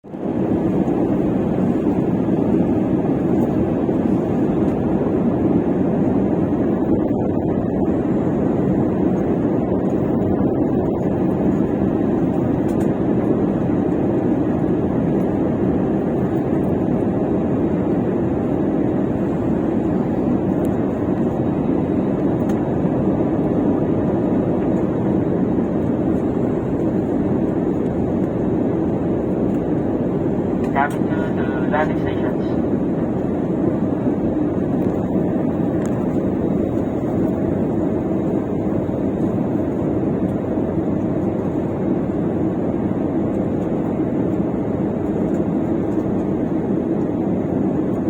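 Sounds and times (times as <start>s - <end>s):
jet cabin engine rumble: 0.0s - 48.0s.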